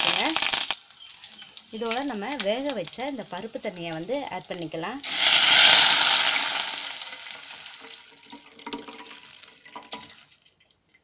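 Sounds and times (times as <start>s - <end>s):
liquid sizzling in hot oil: 0.0s - 10.9s.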